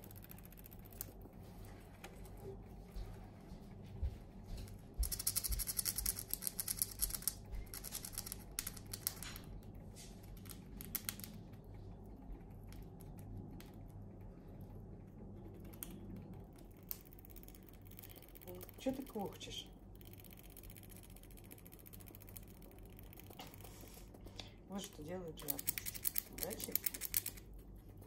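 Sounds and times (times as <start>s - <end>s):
squirrel gnawing nut shells: 0.0s - 2.5s, 4.5s - 28.0s.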